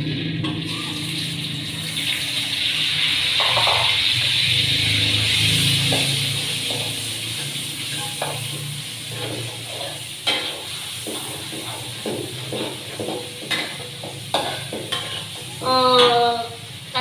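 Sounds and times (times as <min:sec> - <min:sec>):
food sizzling: 0:00.0 - 0:17.0
spatula scraping wok: 0:00.2 - 0:17.0.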